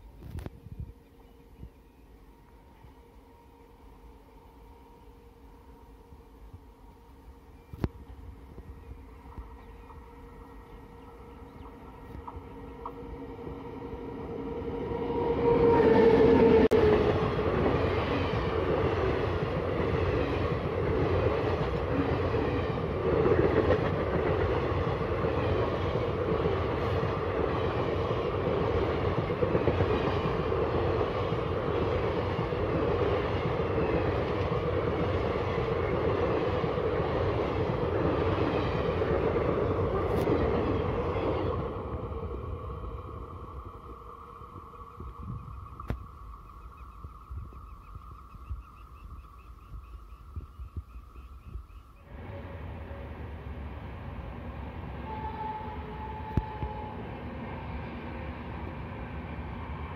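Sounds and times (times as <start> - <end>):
electric locomotive passing: 0.0 - 59.9.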